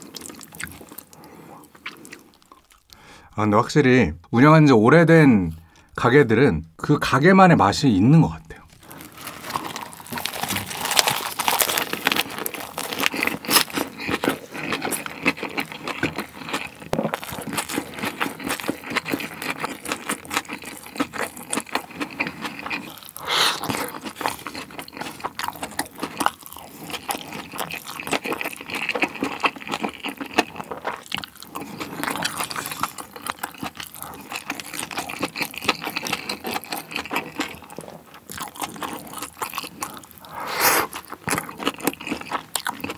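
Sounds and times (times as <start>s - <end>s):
chewing and crunching lettuce: 0.0s - 3.0s, 8.5s - 42.9s.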